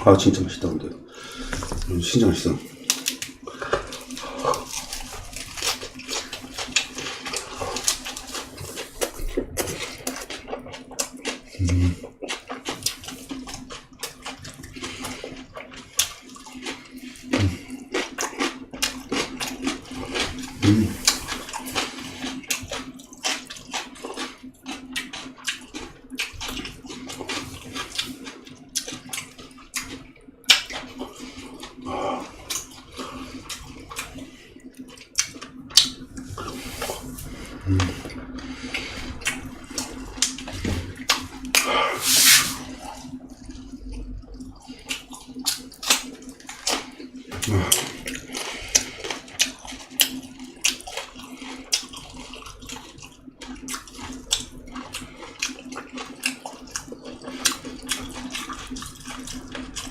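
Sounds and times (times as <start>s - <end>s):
faint steady hum: 0.0s - 59.9s
wet chewing and lip-smacking: 2.6s - 42.0s, 42.6s - 59.9s.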